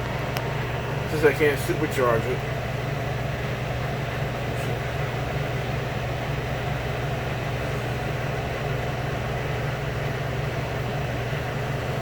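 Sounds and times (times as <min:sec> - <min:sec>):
air conditioner compressors humming: 0:00.0 - 0:12.0
air conditioner fans rushing: 0:00.0 - 0:12.0.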